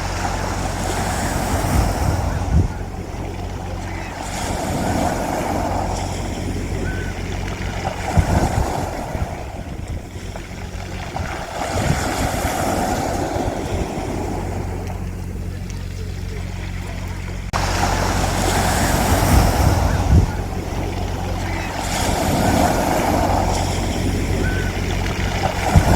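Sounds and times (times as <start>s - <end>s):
sea waves washing onto beach: 0.0s - 25.9s
steady low hum: 0.0s - 25.9s.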